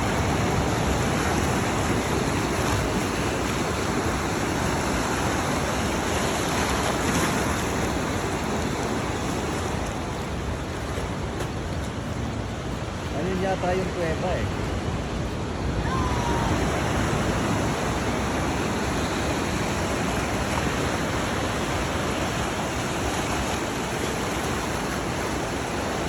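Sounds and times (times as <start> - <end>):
ocean waves washing: 0.0 - 26.0.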